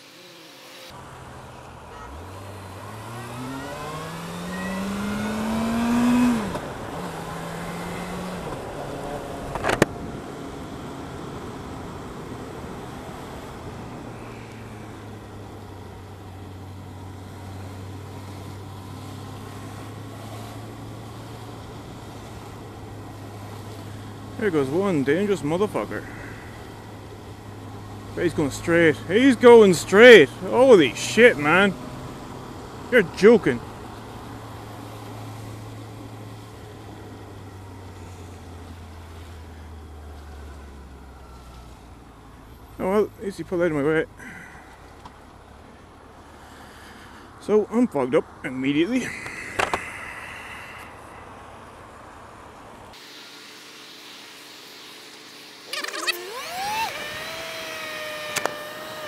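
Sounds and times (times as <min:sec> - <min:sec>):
motorcycle engine at low revs: 0:00.0 - 0:45.4, 0:55.6 - 0:59.0
wet road noise: 0:00.0 - 0:59.0.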